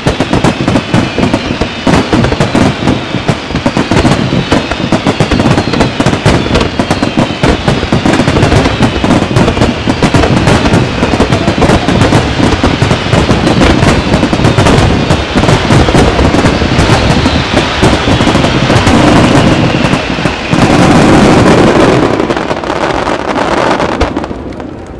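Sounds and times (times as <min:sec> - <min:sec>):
firework whistles gliding down: 0:00.0 - 0:24.7
fireworks bursts and crackling: 0:00.0 - 0:24.9.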